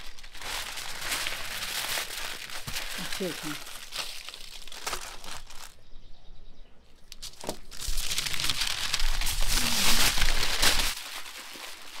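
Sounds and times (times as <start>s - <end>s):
aluminium foil crinkling: 0.0s - 5.8s, 7.1s - 12.0s.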